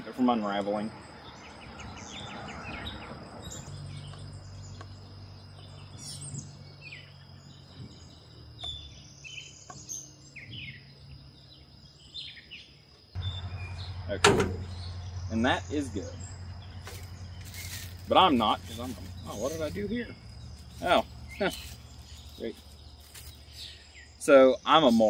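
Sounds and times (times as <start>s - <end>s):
birds chirping and calling: 0.0s - 25.0s
high insect drone: 4.6s - 25.0s.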